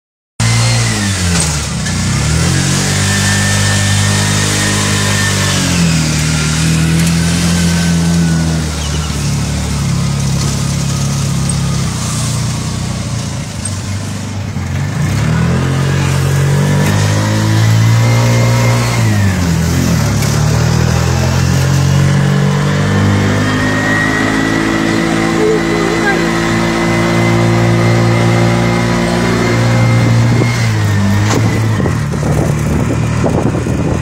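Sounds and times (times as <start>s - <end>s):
auto-rickshaw engine running: 0.4s - 34.0s.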